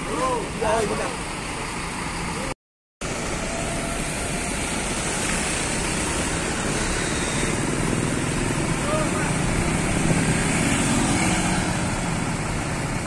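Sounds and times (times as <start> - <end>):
diesel bus engine running: 0.0 - 13.0.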